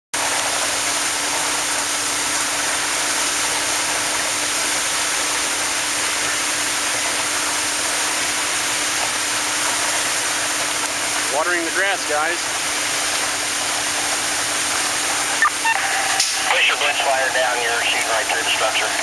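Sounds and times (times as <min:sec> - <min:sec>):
fire hose spraying water: 0:00.2 - 0:19.0.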